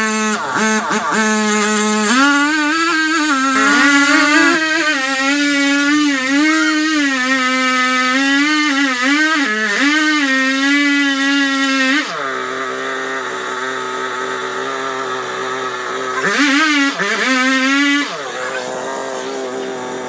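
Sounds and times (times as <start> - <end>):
chainsaw cutting and idling: 0.0 - 20.0.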